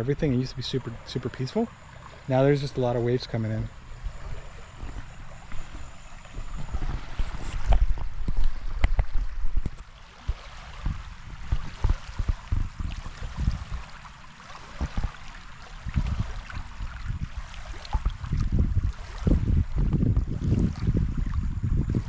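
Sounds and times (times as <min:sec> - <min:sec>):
small waves lapping: 0:00.0 - 0:22.0
wind buffeting microphone: 0:00.0 - 0:22.0.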